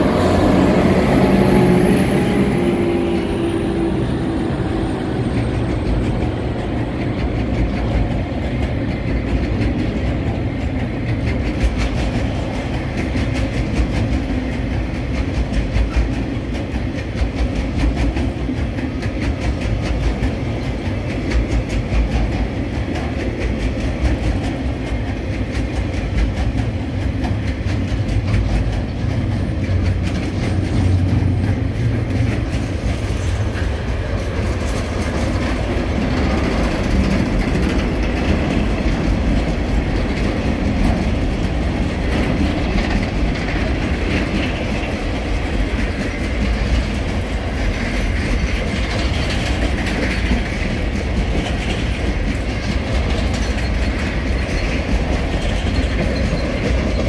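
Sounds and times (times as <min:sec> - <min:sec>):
train wheels rumbling on rails: 0:00.0 - 0:57.0
wheels clicking over track joints: 0:05.2 - 0:57.0.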